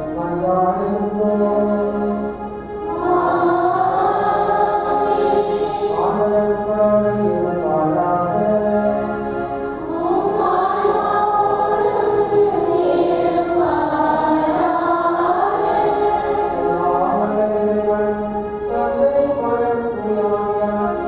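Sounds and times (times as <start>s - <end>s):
slow chanted singing: 0.0s - 21.0s.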